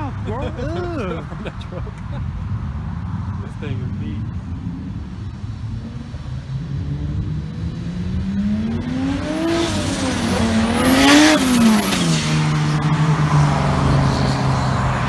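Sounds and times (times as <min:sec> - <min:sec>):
car engine accelerating past: 0:02.2 - 0:15.0.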